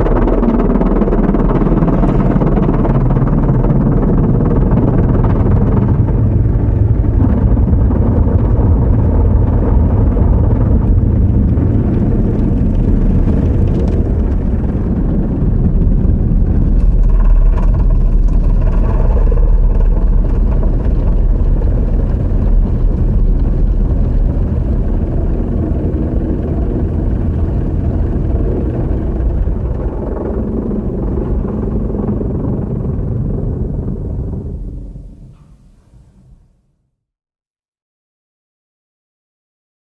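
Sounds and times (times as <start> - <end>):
car wash rumble inside cabin: 0.0 - 35.4.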